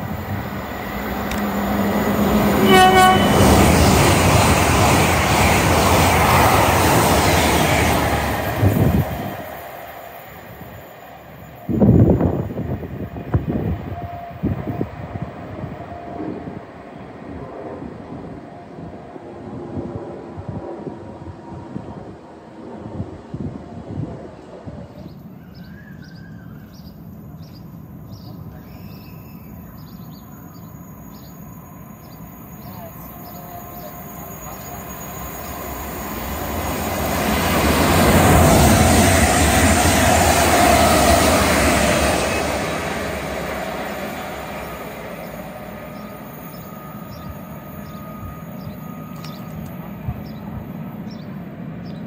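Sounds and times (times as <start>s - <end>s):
train wheels rumbling on rails: 0.0s - 27.6s, 32.0s - 52.0s.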